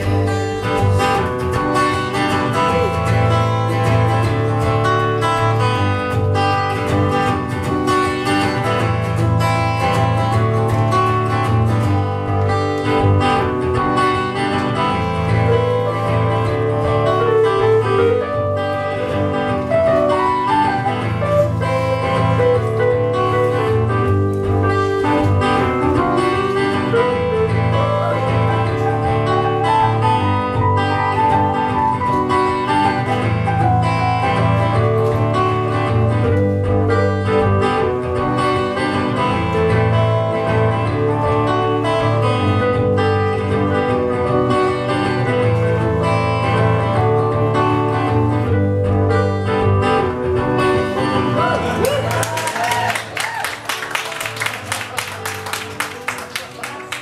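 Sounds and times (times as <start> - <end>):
plucked guitar-like keyboard line: 0.0 - 52.2.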